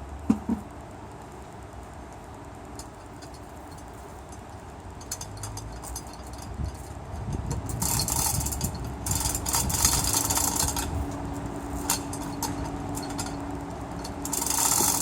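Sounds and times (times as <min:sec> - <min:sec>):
ratchet pawl clicking: 0:02.7 - 0:15.0
chain rattling: 0:02.8 - 0:15.0.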